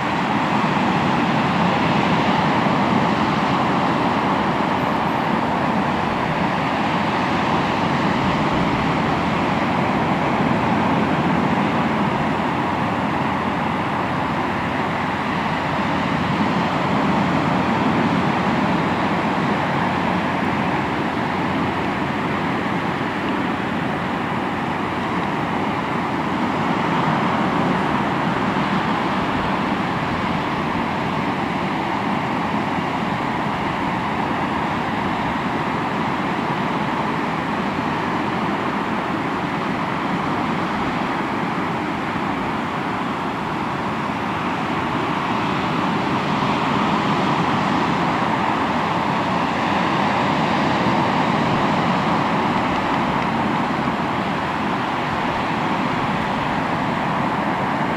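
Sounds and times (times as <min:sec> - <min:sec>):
ocean waves washing on shore: 0:00.0 - 0:57.9.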